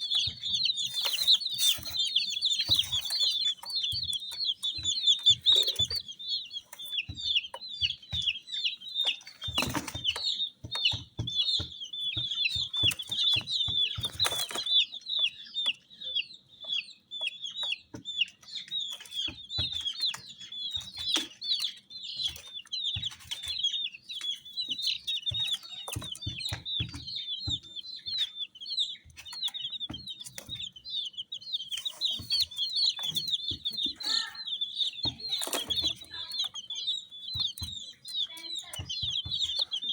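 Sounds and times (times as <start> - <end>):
knocks and scuffs: 0.0 - 15.3, 17.9 - 39.9
baby chicks peeping: 0.0 - 39.9.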